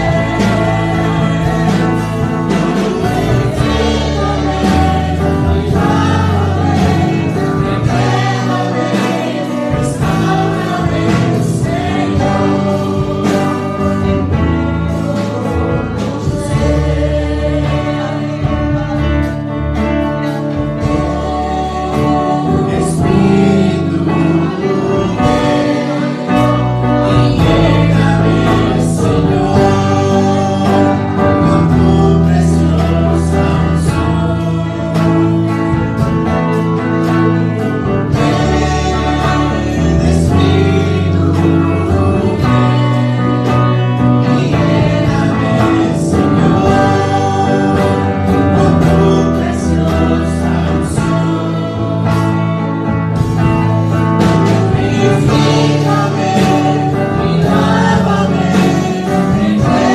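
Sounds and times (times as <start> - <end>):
instrumental accompaniment with bass: 0.0 - 59.9
woman and man singing: 0.0 - 59.9.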